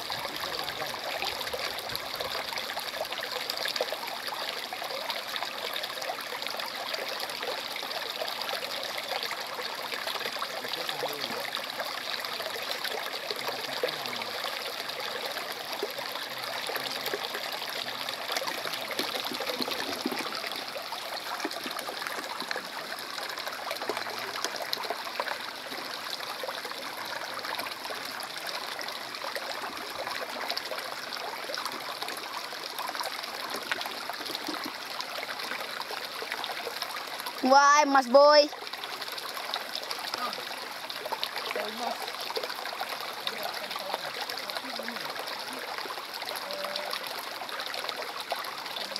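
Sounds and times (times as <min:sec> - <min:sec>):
stream trickling over stones: 0:00.0 - 0:48.9.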